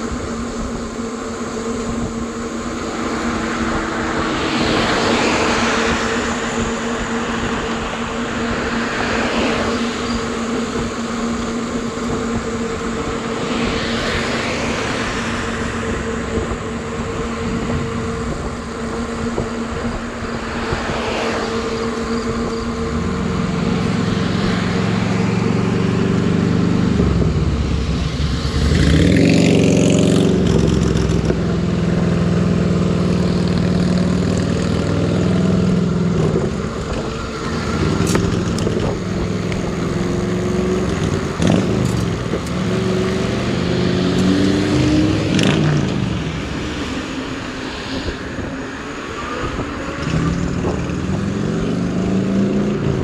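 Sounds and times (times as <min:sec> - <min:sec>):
electric bike motor hum: 0:00.0 - 0:53.0
tire road noise on pavement: 0:00.0 - 0:53.0.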